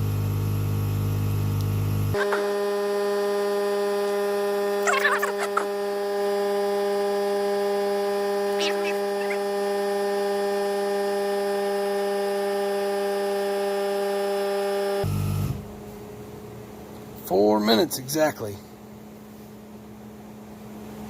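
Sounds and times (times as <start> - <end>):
air compressor humming: 0.0 - 17.6.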